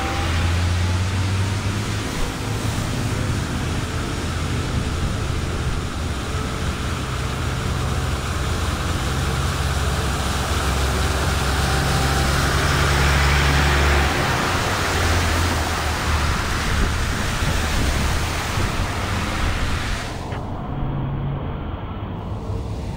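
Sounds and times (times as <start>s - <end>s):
tyres splashing through water: 0.0s - 20.4s
flowing water: 0.0s - 20.7s
truck engine running: 0.0s - 22.9s.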